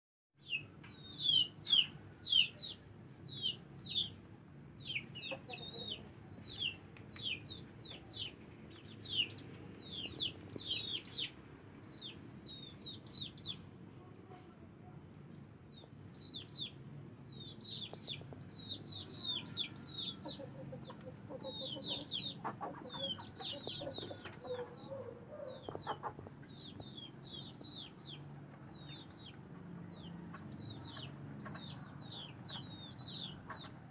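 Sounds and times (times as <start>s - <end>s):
chicks peeping: 0.4s - 13.8s, 15.6s - 33.9s
chickens clucking: 0.5s - 2.8s, 3.4s - 13.8s, 17.4s - 33.9s.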